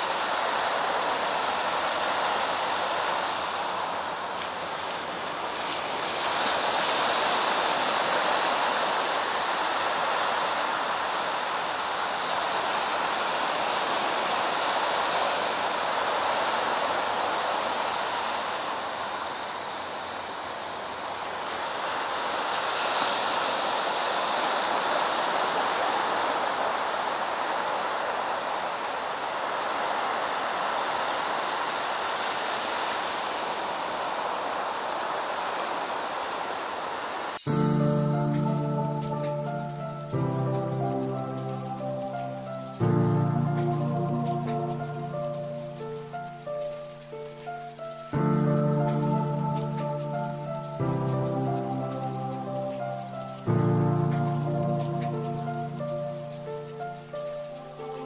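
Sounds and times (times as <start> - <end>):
small waves washing onto beach: 0.0 - 58.0.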